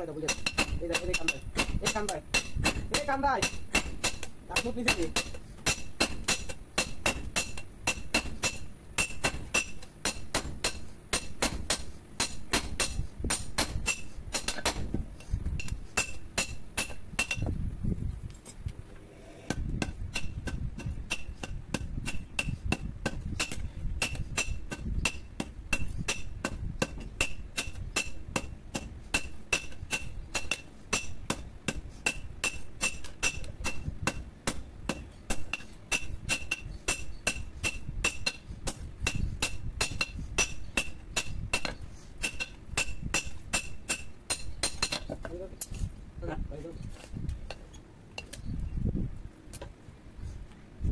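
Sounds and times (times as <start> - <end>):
hammer striking hot metal on anvil: 0.2 - 14.9, 15.6 - 17.5, 19.5 - 45.1.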